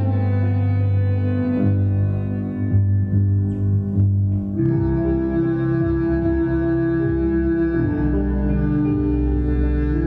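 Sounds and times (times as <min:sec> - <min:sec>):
deep bass: 0:00.0 - 0:10.0
slow tango music: 0:00.0 - 0:10.0.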